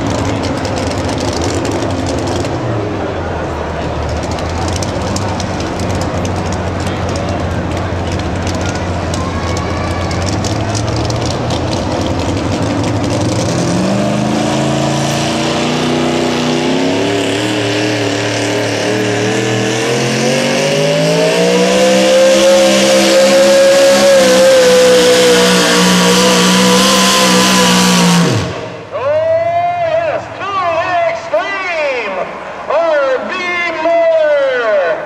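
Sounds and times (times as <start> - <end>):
truck engine under full load: 0.0 - 33.8.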